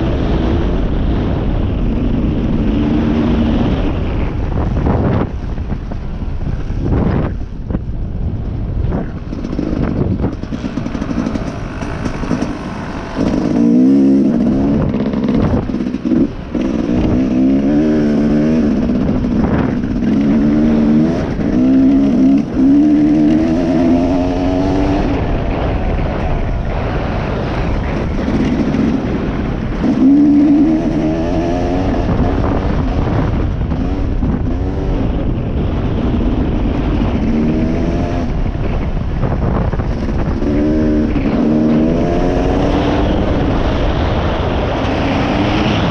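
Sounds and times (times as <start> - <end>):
dirt bike engine revving: 0.0 - 5.3, 9.2 - 38.8, 39.4 - 45.9.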